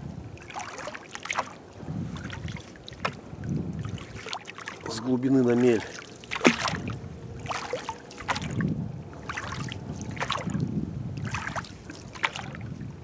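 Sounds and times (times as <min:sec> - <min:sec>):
oars splashing in water: 0:00.0 - 0:13.0.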